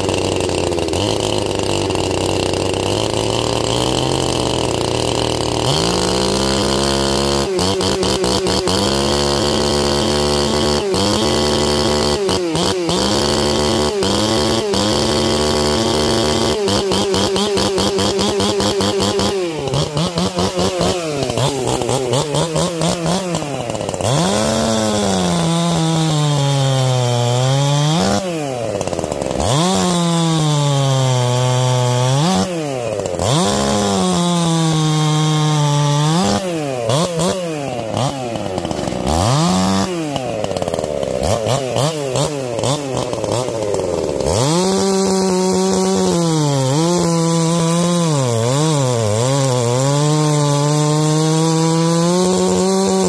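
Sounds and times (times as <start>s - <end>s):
chainsaw cutting a log: 0.0s - 53.0s.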